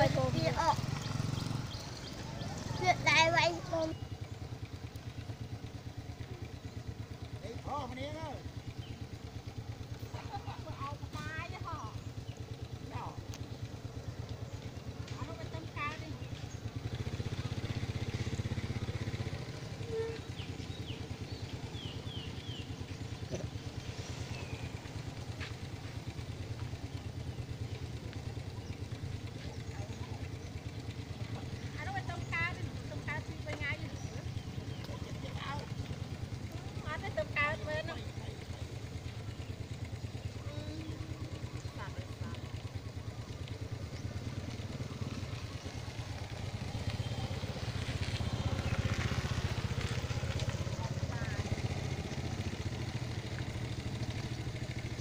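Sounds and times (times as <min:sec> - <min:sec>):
pulsing engine hum: 0:00.0 - 0:55.0.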